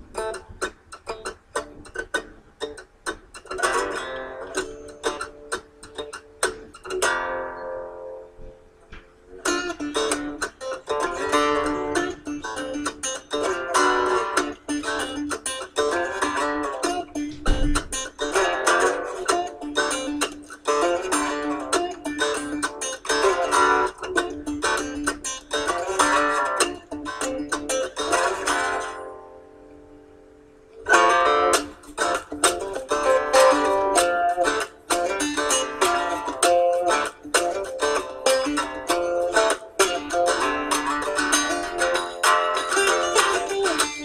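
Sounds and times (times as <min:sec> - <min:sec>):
quickly plucked strings music: 0:00.0 - 0:44.0.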